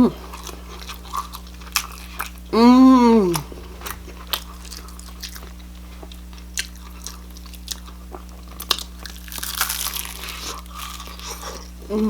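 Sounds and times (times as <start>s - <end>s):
chewing crispy fried chicken: 0.0s - 12.0s
low electrical hum: 0.0s - 12.0s.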